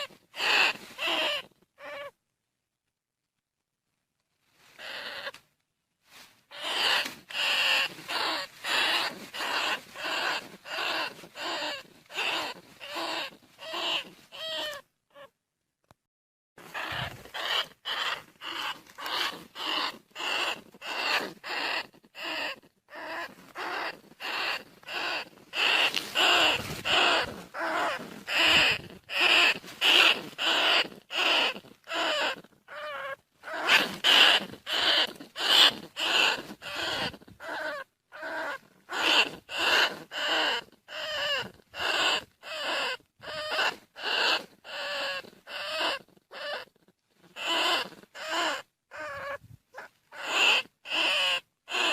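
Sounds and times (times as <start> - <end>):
rat squeaky cries: 0.0 - 2.2, 4.8 - 5.4, 6.5 - 15.3, 16.6 - 51.9.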